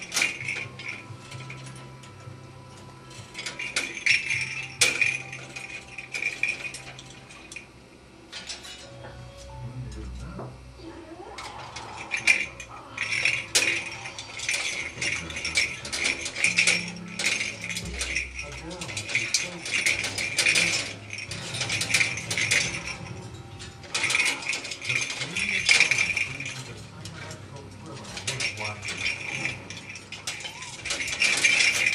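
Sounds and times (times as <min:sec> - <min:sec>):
parrot rattling hard toy: 0:00.0 - 0:08.9, 0:11.4 - 0:31.9.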